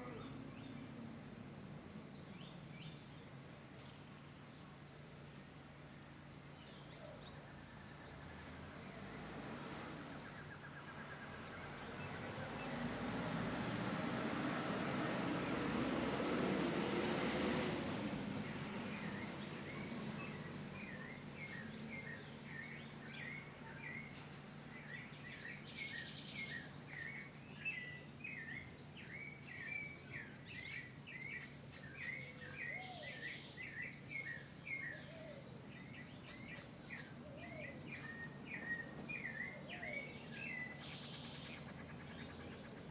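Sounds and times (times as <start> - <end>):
wild birds chirping and singing: 0.0 - 42.9.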